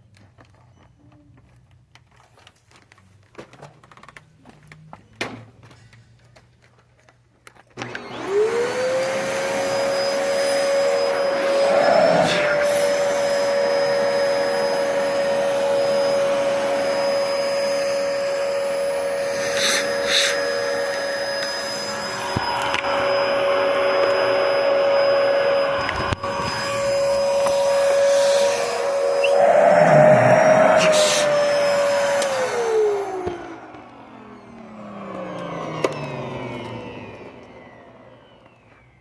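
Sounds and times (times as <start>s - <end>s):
vacuum cleaner motor whining: 7.8s - 39.0s.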